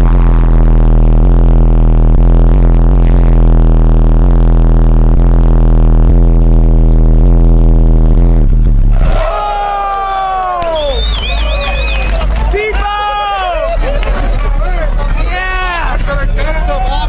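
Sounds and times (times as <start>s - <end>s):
loud low bass tone: 0.0s - 17.0s.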